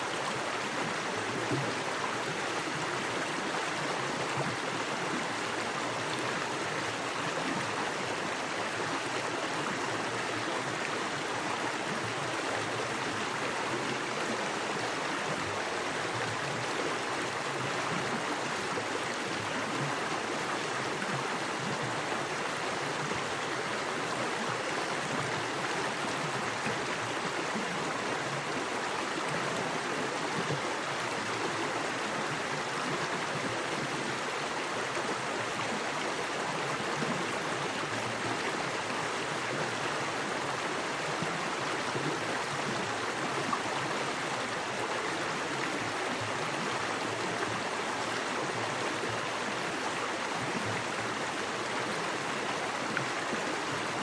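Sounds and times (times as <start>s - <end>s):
creek water running over rocks: 0.0s - 54.0s.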